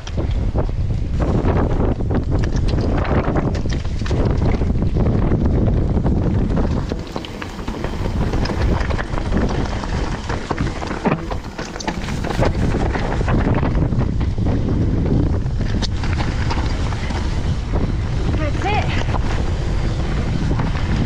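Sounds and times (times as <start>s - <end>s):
bike knocks and rattles: 0.0s - 21.0s
bike tyres on dirt: 0.0s - 21.0s
wind rushing over microphone: 0.0s - 21.0s.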